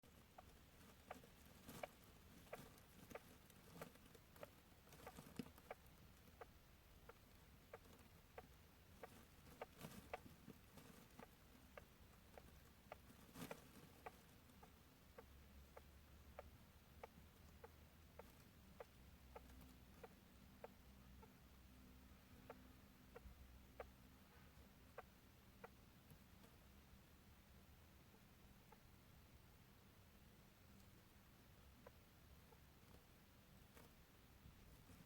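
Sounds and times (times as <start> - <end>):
hamster snoring ticks: 0.0 - 27.0, 27.6 - 35.0.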